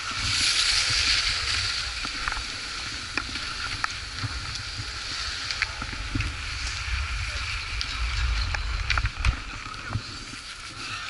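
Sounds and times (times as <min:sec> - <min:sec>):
skis hissing over snow: 0:00.0 - 0:08.4, 0:09.4 - 0:11.0.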